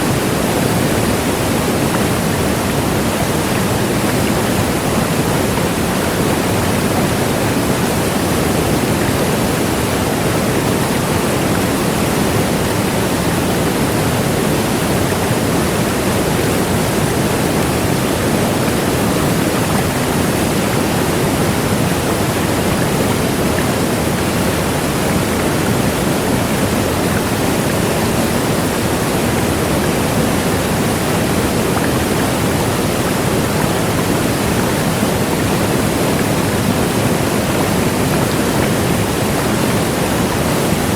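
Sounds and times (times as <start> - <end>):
large waterfall rushing: 0.0 - 40.9.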